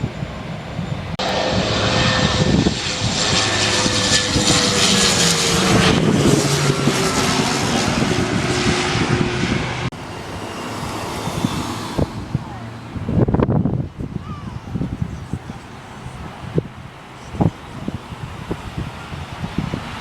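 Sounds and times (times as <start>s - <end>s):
jet airliner passing overhead: 0.0s - 20.0s.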